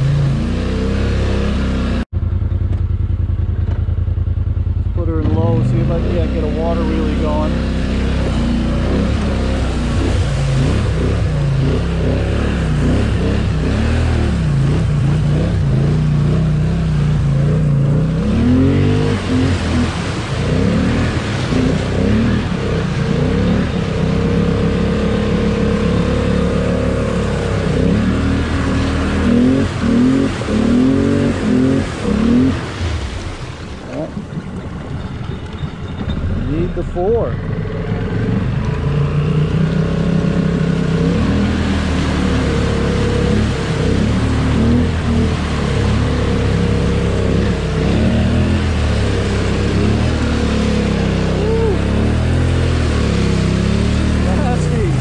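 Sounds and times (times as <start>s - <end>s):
atv engine revving: 0.0s - 55.0s
muddy water churning: 0.0s - 55.0s.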